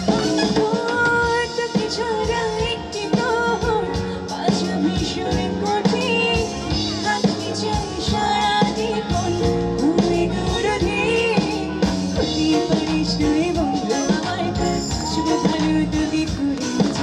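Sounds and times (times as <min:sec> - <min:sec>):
drum kit: 0:00.0 - 0:17.0
electric bass: 0:00.0 - 0:17.0
electric guitar: 0:00.0 - 0:17.0
woman singing into microphone: 0:00.0 - 0:17.0.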